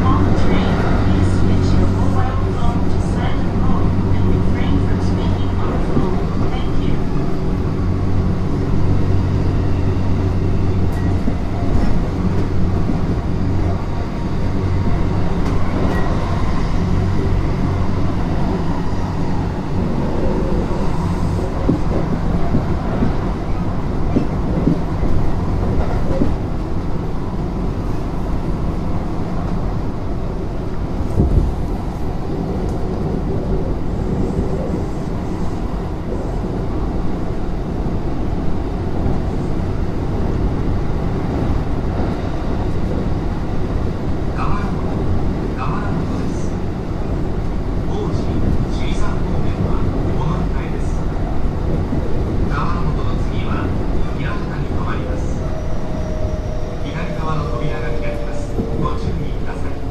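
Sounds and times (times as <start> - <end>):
train motor and rolling hum: 0.0 - 59.9.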